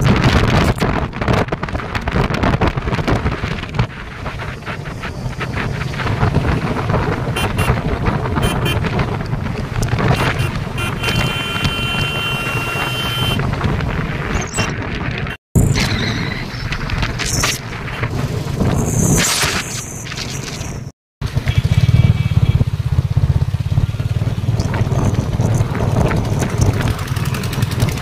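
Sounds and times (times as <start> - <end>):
motorcycle engine rumble: 0.0 - 15.8, 20.2 - 28.0
wind buffeting on microphone: 0.0 - 19.7, 24.2 - 28.0.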